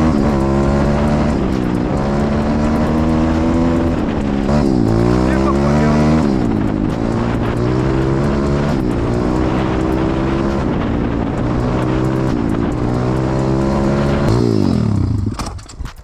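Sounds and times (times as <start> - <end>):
motorbike engine accelerating: 0.0 - 16.0.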